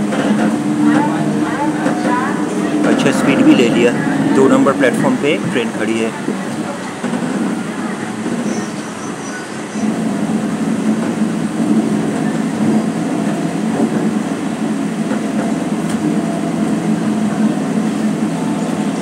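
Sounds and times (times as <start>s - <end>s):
train rumble inside coach: 0.0s - 19.0s.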